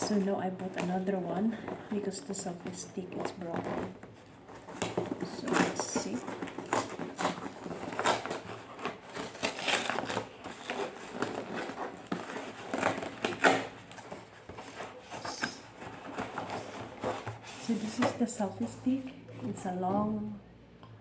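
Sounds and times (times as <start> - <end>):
packaging crinkling and rustling: 0.0 - 18.2.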